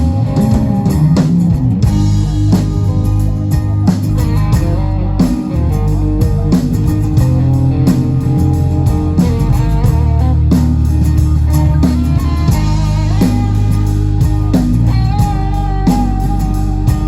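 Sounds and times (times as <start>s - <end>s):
bass line: 0.0s - 17.0s
electric guitar melody: 0.0s - 17.0s
steady drum beat: 0.0s - 17.0s.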